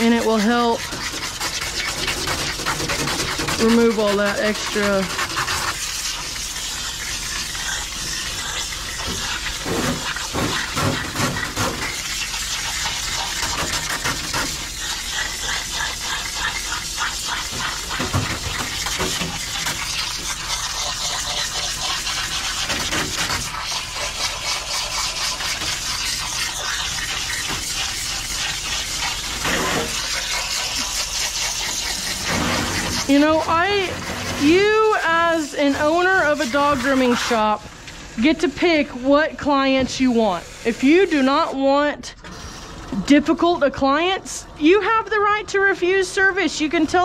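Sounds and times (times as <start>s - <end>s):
water spraying from hose nozzle: 0.0s - 37.6s, 38.2s - 47.0s
water running onto steel tub: 0.0s - 47.0s.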